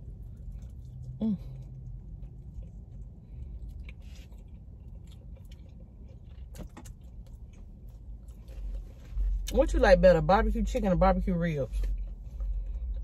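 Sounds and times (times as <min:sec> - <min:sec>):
chewing meat: 0:00.0 - 0:09.5, 0:11.8 - 0:13.0
low steady hum: 0:00.0 - 0:13.0.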